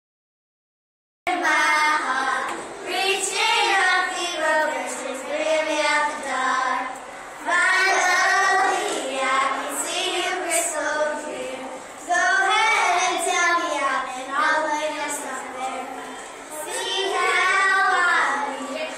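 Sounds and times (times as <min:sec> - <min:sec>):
girls singing unaccompanied: 0:01.3 - 0:18.9.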